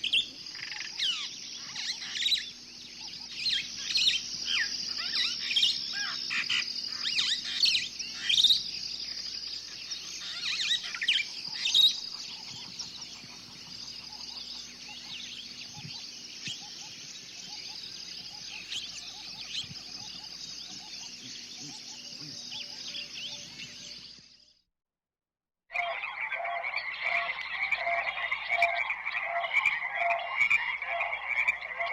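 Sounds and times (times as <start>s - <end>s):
birds chirping and calling: 0.0s - 24.5s, 25.7s - 31.9s.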